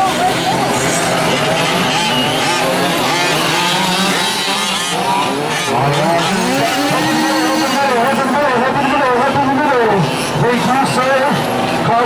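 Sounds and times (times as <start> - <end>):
small two-stroke engines racing: 0.0 - 12.0.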